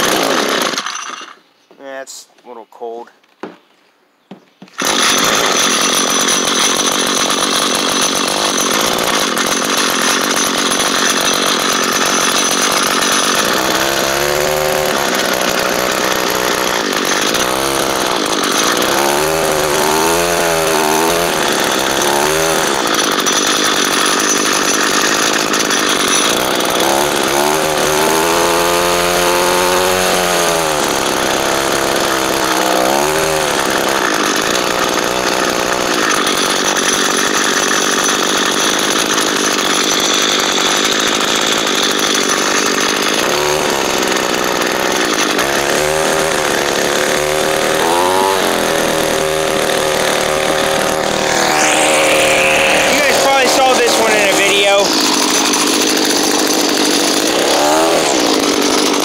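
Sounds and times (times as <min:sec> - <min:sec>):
string trimmer engine starting and running: 0:00.0 - 0:01.4, 0:04.8 - 0:59.0.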